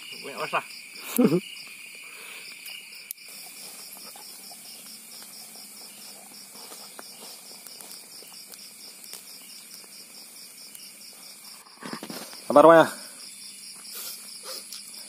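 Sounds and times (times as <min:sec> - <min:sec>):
burning wood ticking: 0:00.0 - 0:15.0
night insect chorus: 0:00.0 - 0:15.0.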